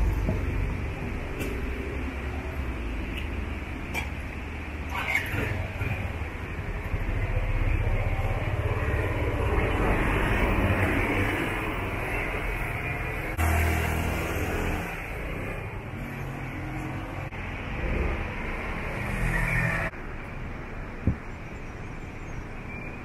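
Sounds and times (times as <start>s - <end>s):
road noise: 0.0s - 23.0s
vehicles passing: 0.0s - 23.0s.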